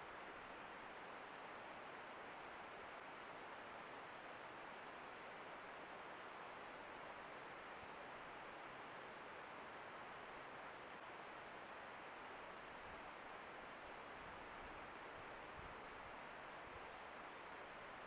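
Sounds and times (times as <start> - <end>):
creek water flowing: 0.0 - 18.0.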